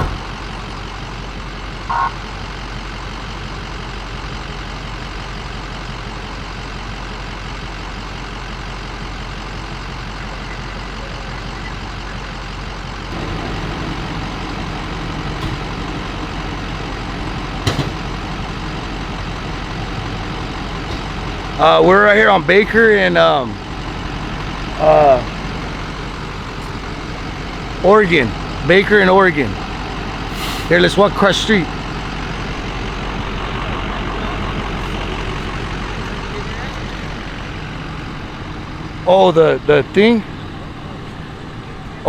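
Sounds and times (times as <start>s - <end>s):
heavy engine rumble: 0.0s - 42.0s
vehicle engine running: 0.0s - 42.0s.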